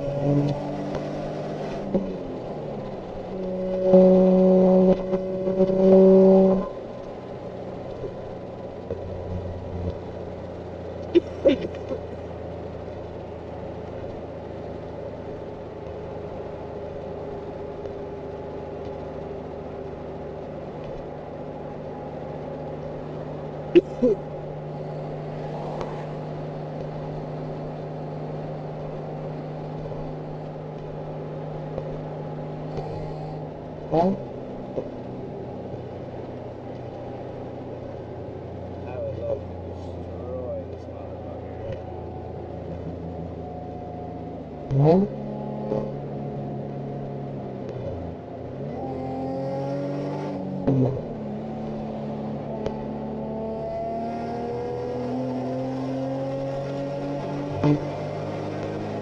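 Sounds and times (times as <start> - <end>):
car engine drone: 0.0 - 59.0.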